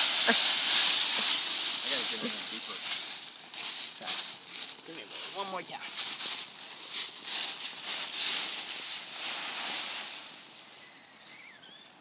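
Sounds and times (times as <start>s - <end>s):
dry leaves crunching underfoot: 0.0s - 11.5s.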